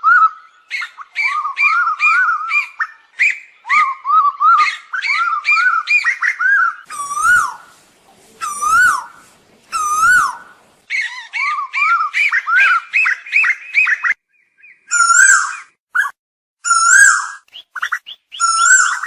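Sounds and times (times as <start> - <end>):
bird whistled calls: 0.0 - 7.7, 8.4 - 19.0.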